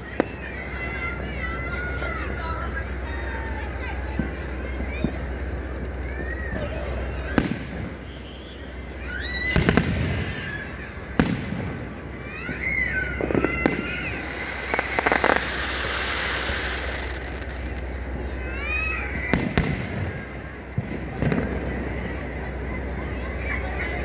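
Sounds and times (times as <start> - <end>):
firework bangs: 0.0 - 24.0.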